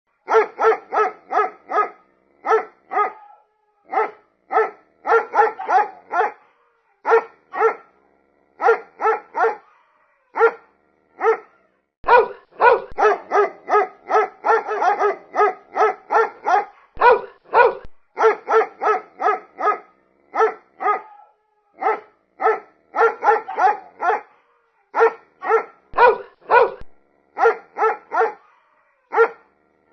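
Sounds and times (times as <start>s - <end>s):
dog barking: 0.2s - 8.0s, 8.6s - 29.5s.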